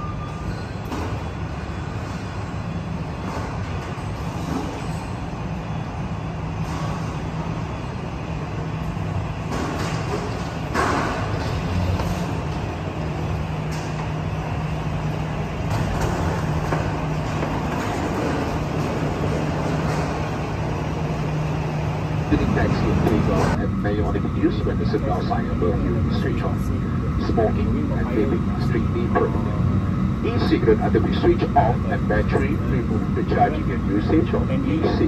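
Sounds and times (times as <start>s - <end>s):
airliner low rumble and hum: 0.0s - 35.0s.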